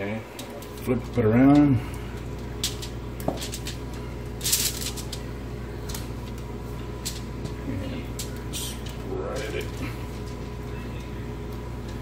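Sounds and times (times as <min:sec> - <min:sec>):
aluminum foil crinkling: 0:00.3 - 0:11.2.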